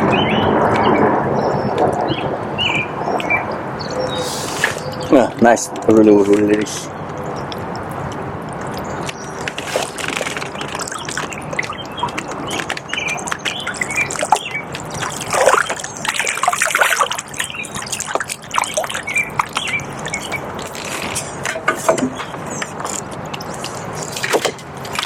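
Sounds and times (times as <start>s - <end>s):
flooded river rushing: 0.0s - 25.0s
water splashing and dripping: 0.0s - 25.0s.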